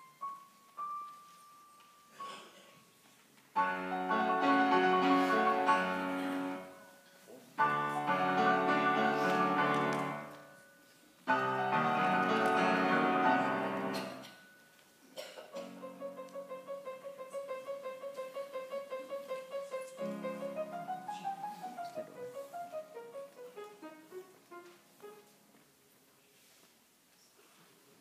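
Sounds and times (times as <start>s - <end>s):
piano: 0.0s - 25.9s.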